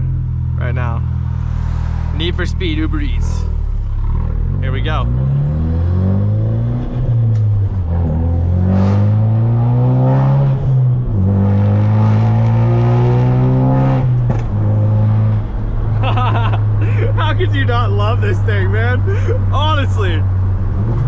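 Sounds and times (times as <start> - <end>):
car engine accelerating hard: 0.0 - 19.5.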